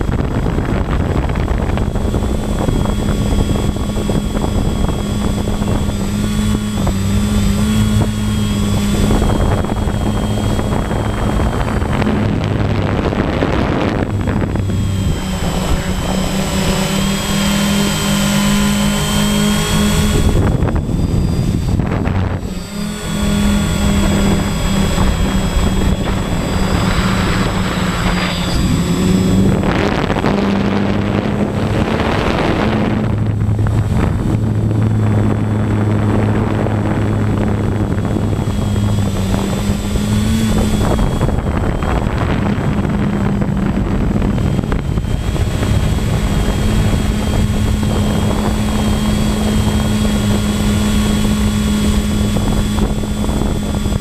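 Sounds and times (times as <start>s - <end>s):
propellers and motors whirring: 0.0s - 54.0s
wind gusts on microphone: 0.0s - 54.0s.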